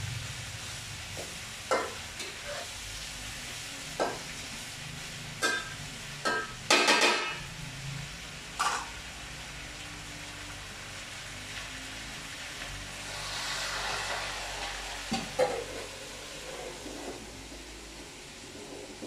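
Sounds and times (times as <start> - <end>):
tofu sizzling in hot oil: 0.0 - 19.0.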